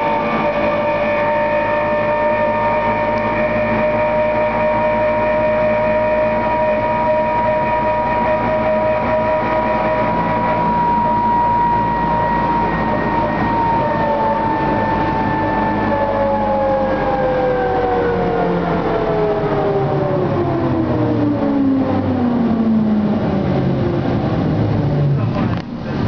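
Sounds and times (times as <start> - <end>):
rumble of the ride: 0.0 - 26.0
trolleybus electric drive whine: 0.0 - 26.0.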